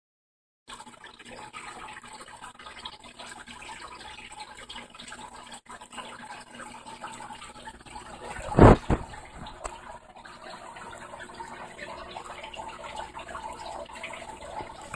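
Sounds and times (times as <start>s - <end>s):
aquarium water trickling: 0.7s - 14.9s.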